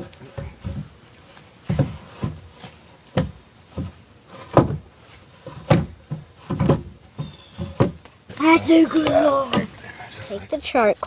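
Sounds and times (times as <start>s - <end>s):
wooden log knocking on logs: 0.0s - 9.8s.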